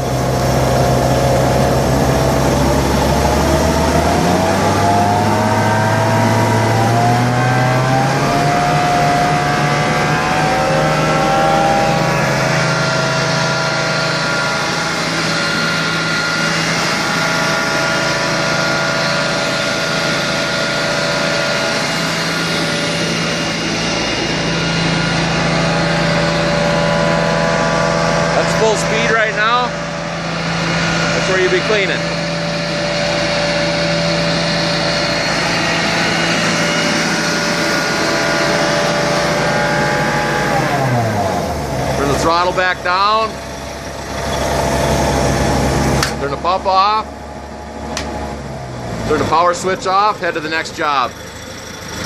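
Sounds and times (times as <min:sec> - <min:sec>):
diesel engine driving vacuum blower: 0:00.0 - 0:52.0.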